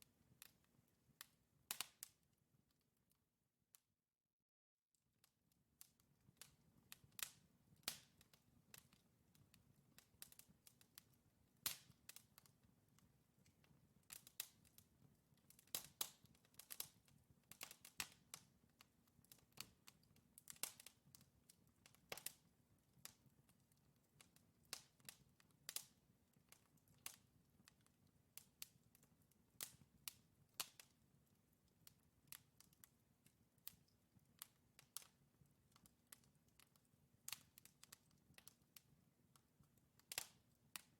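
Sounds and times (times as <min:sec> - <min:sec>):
wood fire crackling: 0:00.1 - 0:02.3, 0:05.8 - 0:40.9.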